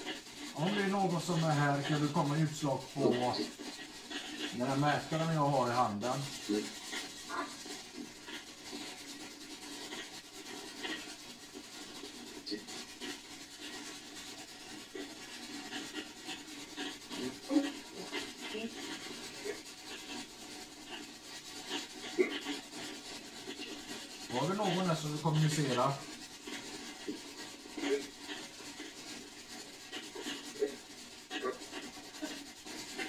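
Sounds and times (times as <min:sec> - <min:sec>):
small scrapes and ticks: 0:00.0 - 0:33.0.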